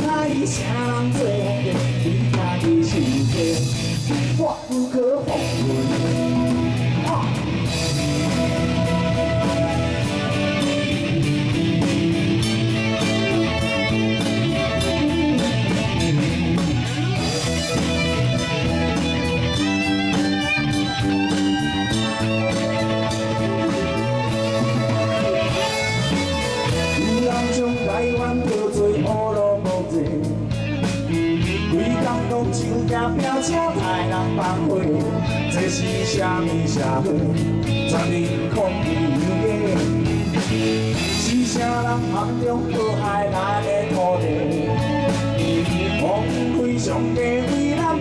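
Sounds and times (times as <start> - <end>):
bass guitar: 0.0 - 48.0
drum kit beat: 0.0 - 48.0
electric guitar: 0.0 - 48.0.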